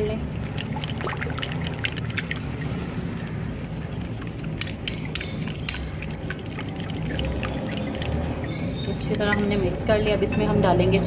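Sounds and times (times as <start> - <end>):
spoon stirring in glass bowl: 0.0 - 10.6.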